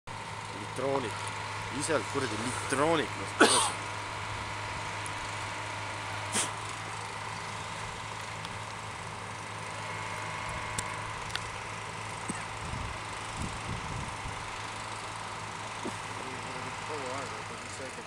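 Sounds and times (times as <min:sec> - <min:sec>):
engine idling hum: 0:00.1 - 0:18.0.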